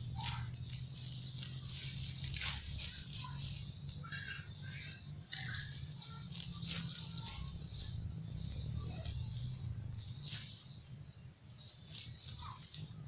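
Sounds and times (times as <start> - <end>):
insect trill: 0.0 - 13.0.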